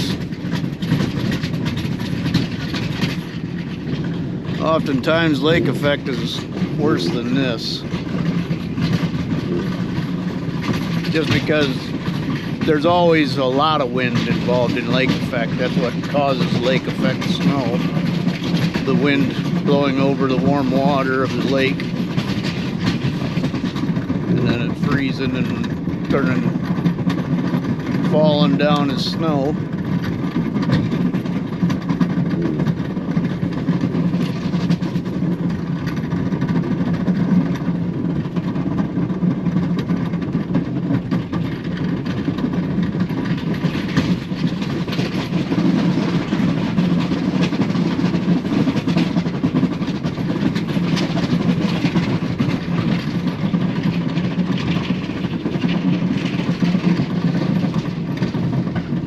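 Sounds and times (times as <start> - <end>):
snow plow engine running: 0.0 - 59.0.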